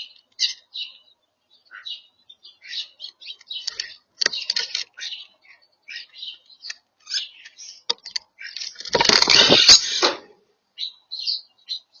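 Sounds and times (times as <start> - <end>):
starlings chirping and clicking: 0.0 - 10.2, 10.8 - 12.0.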